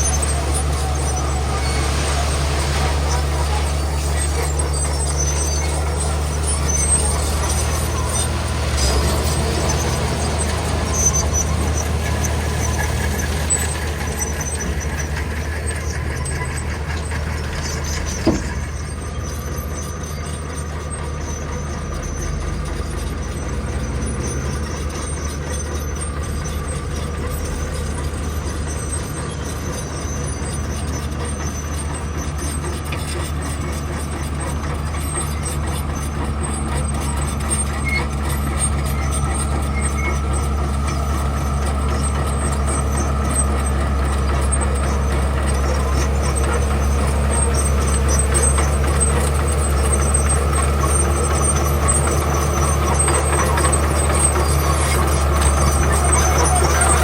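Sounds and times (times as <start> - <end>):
diesel machinery engine drone: 0.0 - 57.0.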